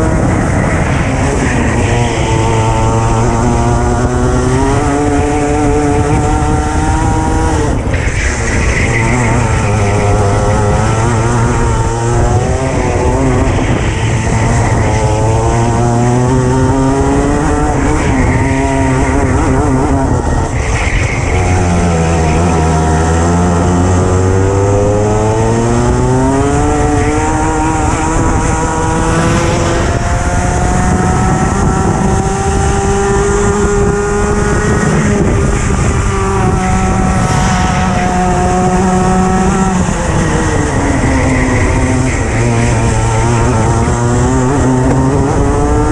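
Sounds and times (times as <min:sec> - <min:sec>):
racing kart engine: 0:00.0 - 0:45.9.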